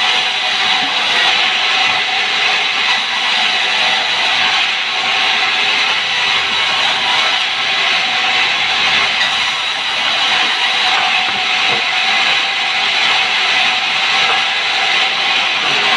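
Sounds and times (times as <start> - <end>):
band saw cutting wood: 0.0 - 15.9.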